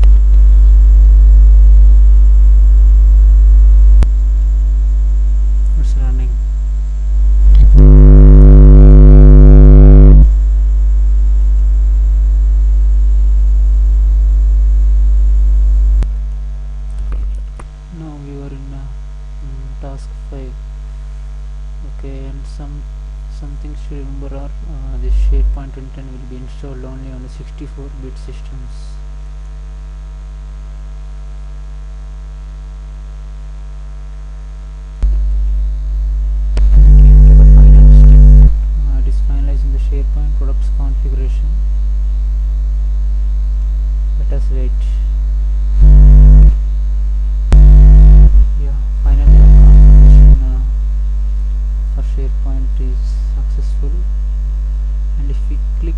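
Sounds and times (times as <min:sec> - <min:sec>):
buzzing electrical mains hum: 0:00.0 - 0:55.9.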